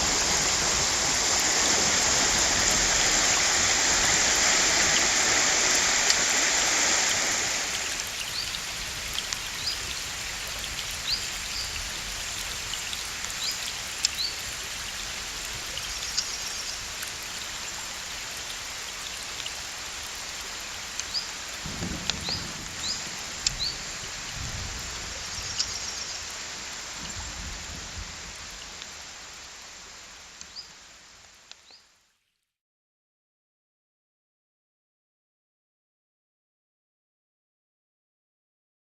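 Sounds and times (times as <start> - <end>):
heavy rain: 0.0 - 31.8
rushing water: 0.0 - 32.1.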